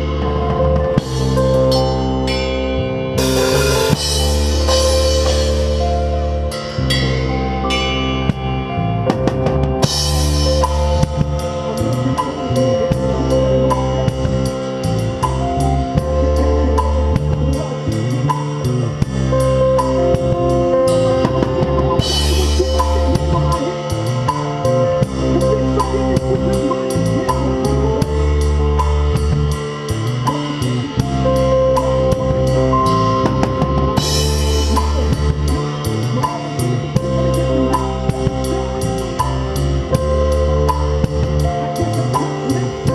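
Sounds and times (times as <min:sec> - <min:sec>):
instruments holding sustained notes: 0:00.0 - 0:42.9
rock drum beat: 0:00.0 - 0:42.9.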